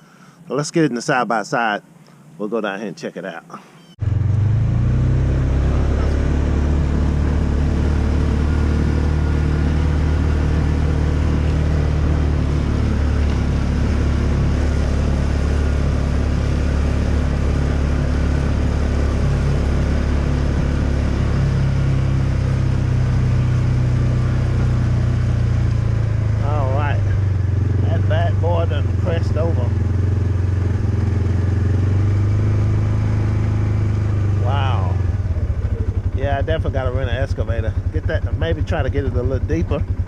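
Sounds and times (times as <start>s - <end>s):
utility vehicle engine droning: 3.8s - 40.0s.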